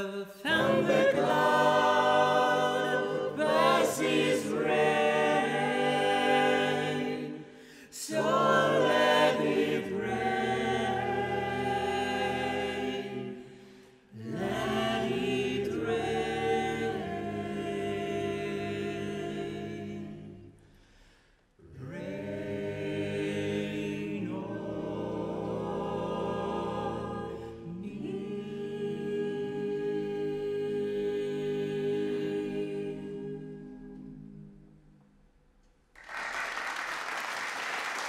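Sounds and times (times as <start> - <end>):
a cappella group singing: 0.0 - 35.2.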